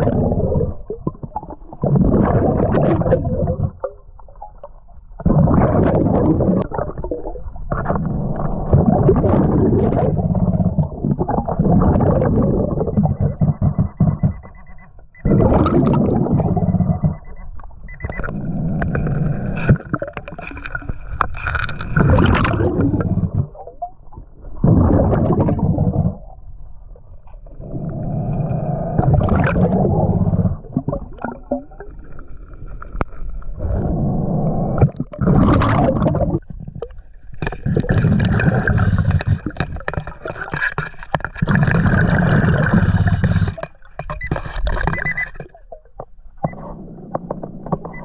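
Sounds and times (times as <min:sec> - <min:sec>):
scuba regulator bubbling exhalations: 0:00.0 - 0:04.6, 0:05.2 - 0:14.6, 0:15.2 - 0:23.9, 0:24.5 - 0:26.4, 0:27.4 - 0:48.0.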